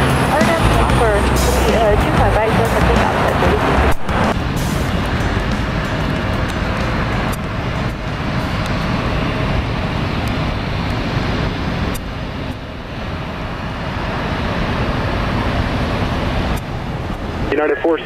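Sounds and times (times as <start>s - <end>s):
jet engine rush: 0.0s - 18.0s.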